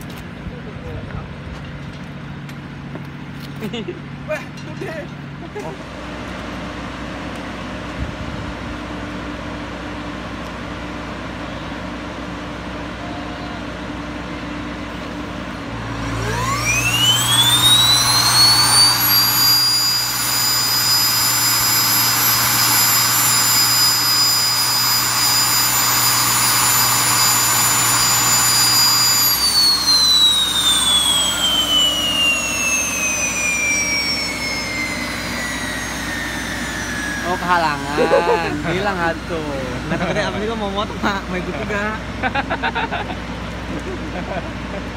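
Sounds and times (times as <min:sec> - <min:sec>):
steady low hum: 0:00.0 - 0:44.9
turboprop engine whine: 0:00.0 - 0:44.9.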